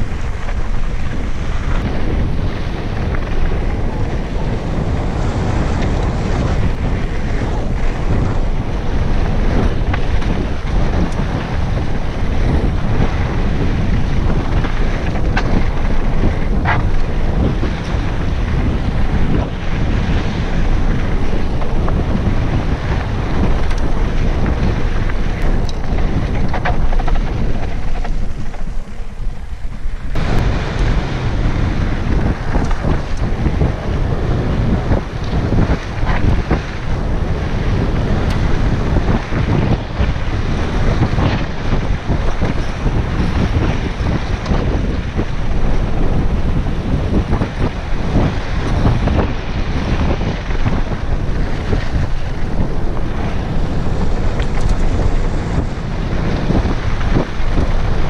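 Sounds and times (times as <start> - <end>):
bike clicks and rattles: 0.0 - 58.0
wind rushing over microphone: 0.0 - 58.0.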